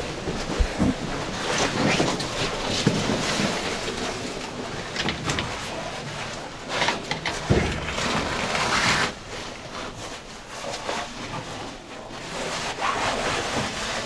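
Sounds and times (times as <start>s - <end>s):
gear scraping against rock: 0.0s - 14.0s.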